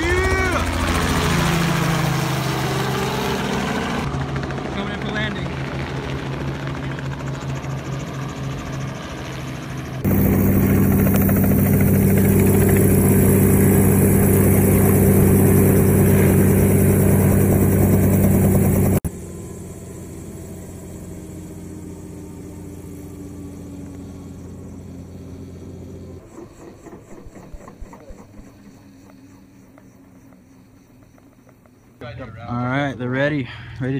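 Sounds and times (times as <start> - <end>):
helicopter engine and rotor: 0.0 - 30.4.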